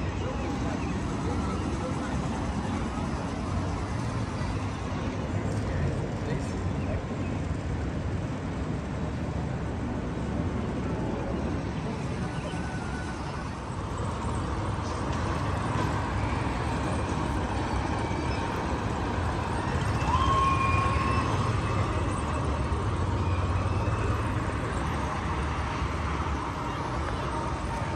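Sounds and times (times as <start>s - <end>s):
diesel construction machinery rumbling: 0.0s - 27.9s.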